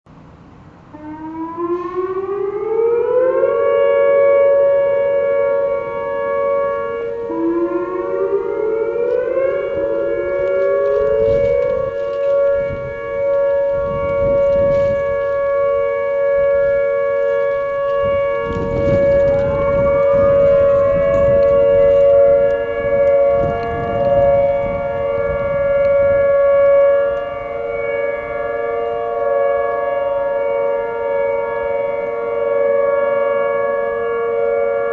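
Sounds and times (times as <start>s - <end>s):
low rumbling noise: 0.1s - 29.2s
outdoor warning sirens: 0.1s - 34.9s.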